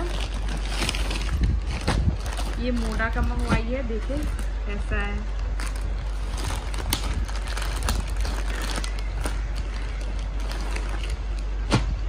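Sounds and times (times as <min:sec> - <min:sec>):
plastic bag crinkling: 0:00.0 - 0:04.6, 0:05.3 - 0:12.0
steady low hum: 0:00.0 - 0:12.0.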